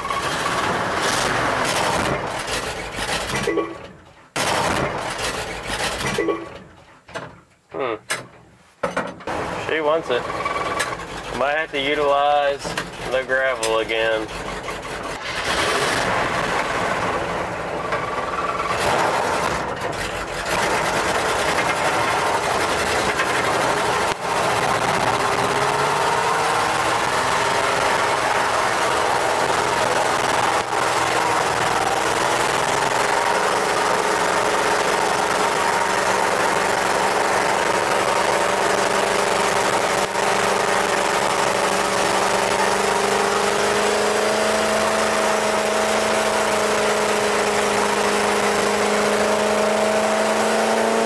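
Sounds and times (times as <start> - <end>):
truck engine rushing: 0.0 - 6.9, 9.2 - 51.0
engine crackles: 0.0 - 8.4, 9.2 - 51.0.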